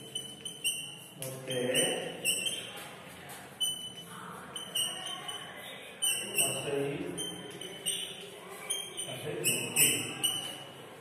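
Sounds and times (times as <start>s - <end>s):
chalk scraping on blackboard: 0.0s - 10.8s
high-pitched chalk squeaks: 0.0s - 11.0s.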